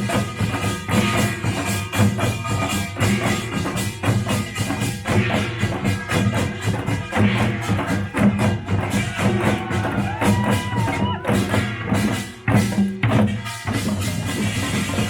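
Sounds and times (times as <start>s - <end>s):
drums and small gongs: 0.0s - 15.0s.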